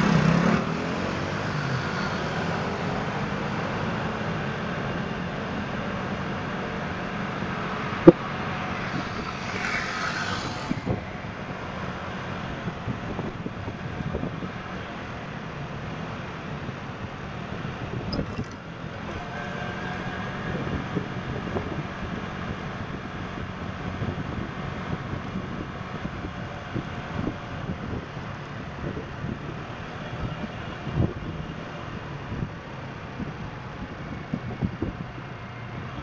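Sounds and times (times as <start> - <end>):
city traffic: 0.0 - 36.0
road and wind noise: 0.0 - 36.0.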